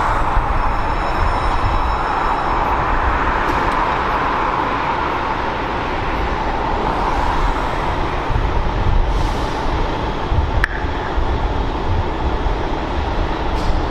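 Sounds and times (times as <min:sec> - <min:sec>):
road vehicle engine and tyre noise: 0:00.0 - 0:13.9.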